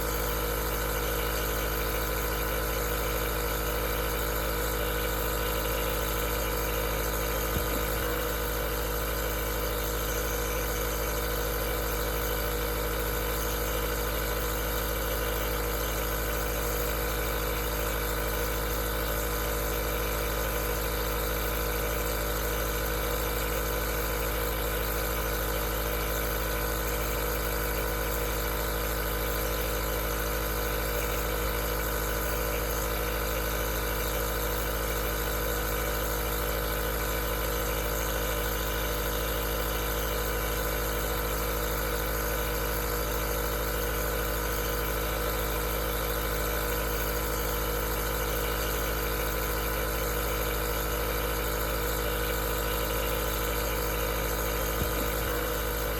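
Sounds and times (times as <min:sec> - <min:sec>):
nebulizer humming: 0:00.0 - 0:55.9.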